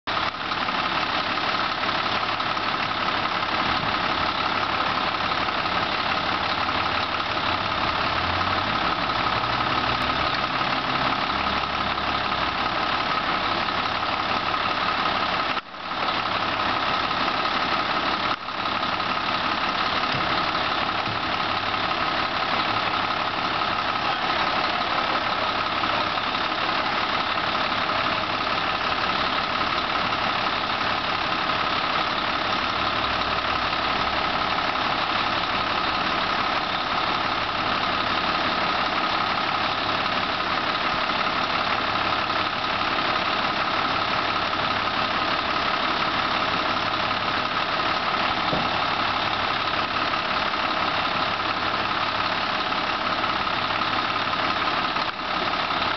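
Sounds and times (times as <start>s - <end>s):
diesel engine idling: 0.1s - 55.9s.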